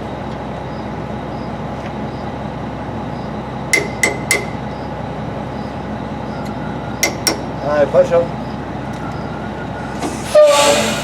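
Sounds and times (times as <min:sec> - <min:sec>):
steady background drone: 0:00.0 - 0:11.0.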